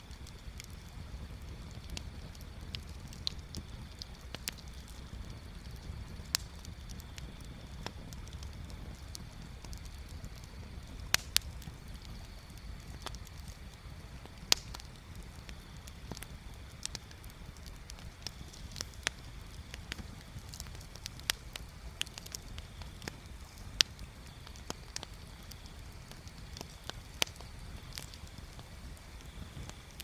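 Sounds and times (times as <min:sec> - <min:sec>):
bonfire crackling and popping: 0:00.0 - 0:30.0
fire low rumble: 0:00.0 - 0:30.0.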